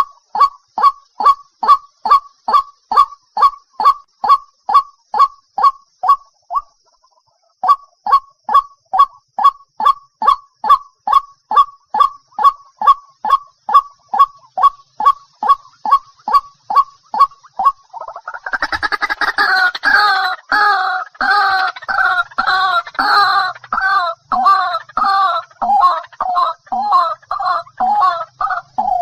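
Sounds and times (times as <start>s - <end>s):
bird harsh croaking chatter: 0.0s - 29.0s.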